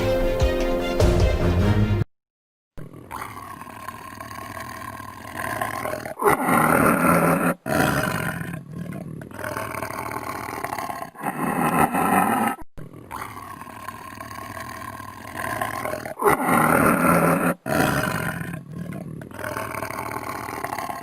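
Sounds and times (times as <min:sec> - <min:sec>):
lion roaring: 0:03.3 - 0:21.0.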